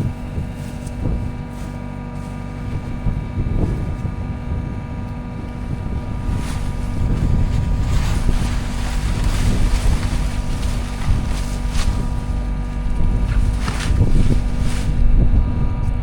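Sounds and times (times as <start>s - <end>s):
loader engine rumbling: 0.0s - 16.0s.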